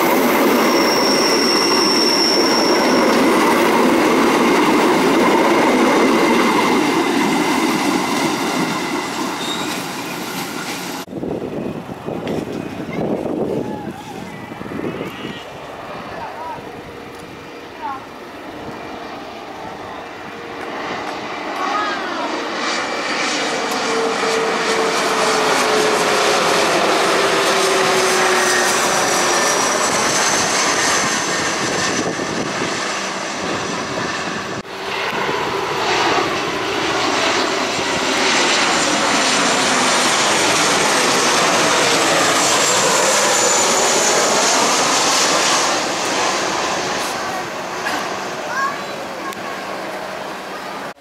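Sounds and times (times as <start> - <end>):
jet airliners passing overhead: 0.0 - 51.0.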